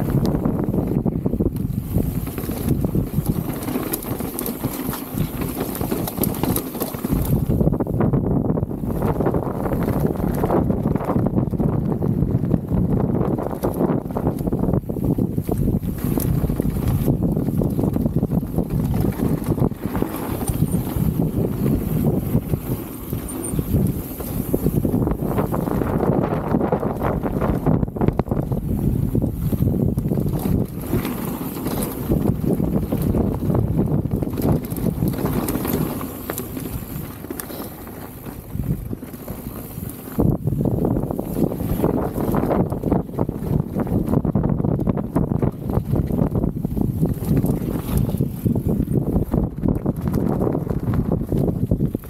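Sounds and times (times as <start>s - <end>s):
bike chain clicks and rattles: 0.0s - 52.0s
bike tyres rumbling over dirt: 0.0s - 52.0s
wind buffeting microphone: 0.0s - 52.0s.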